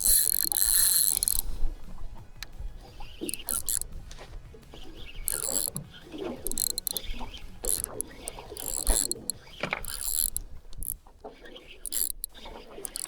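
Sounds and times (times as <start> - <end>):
fishing reel gears whirring: 0.0 - 13.0.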